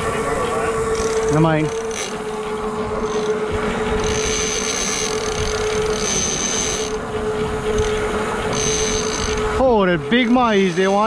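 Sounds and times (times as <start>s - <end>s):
boat engine droning: 0.0s - 11.0s
water noise: 0.0s - 11.0s
wind: 0.0s - 11.0s.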